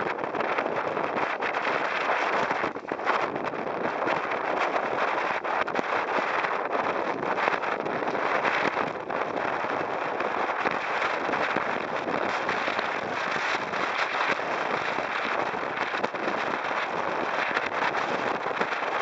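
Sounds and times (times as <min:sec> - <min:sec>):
dense steady crackle: 0:00.0 - 0:19.0
wind buffeting microphone: 0:00.0 - 0:19.0.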